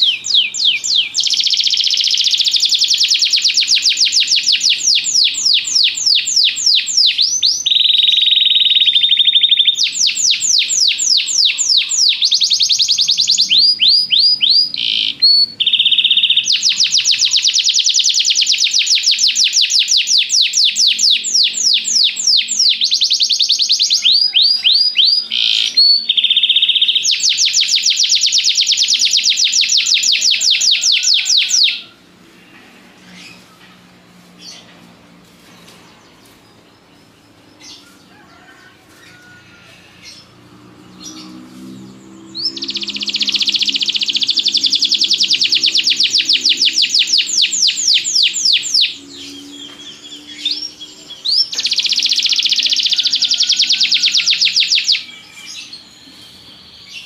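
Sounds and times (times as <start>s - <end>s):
canary trilling: 0.0s - 33.5s, 37.6s - 57.0s
canary chirps: 0.0s - 57.0s.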